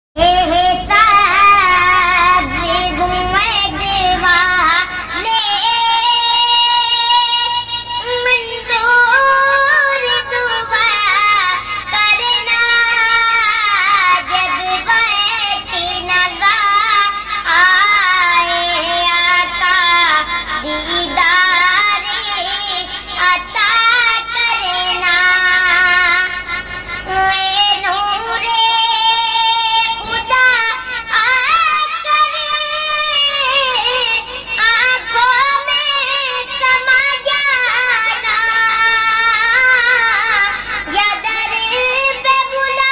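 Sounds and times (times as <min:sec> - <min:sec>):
boy singing solo: 0:00.2 - 0:26.4, 0:27.0 - 0:42.9.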